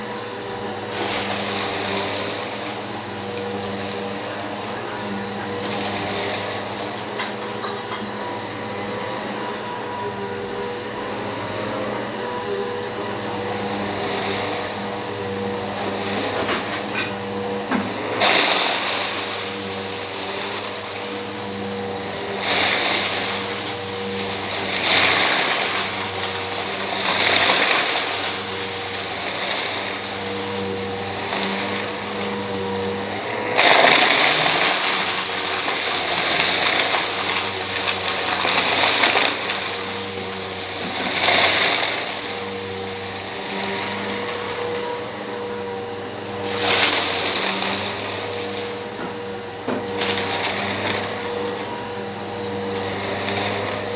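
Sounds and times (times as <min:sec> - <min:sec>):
vacuum cleaner motor hum and whine: 0:00.0 - 0:53.9.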